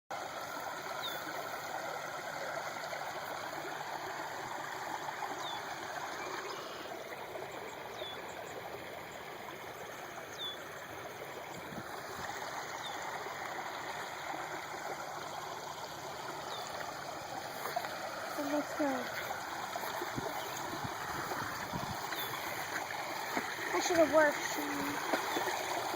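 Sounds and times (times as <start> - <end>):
water trickling into pond: 0.1 - 25.9.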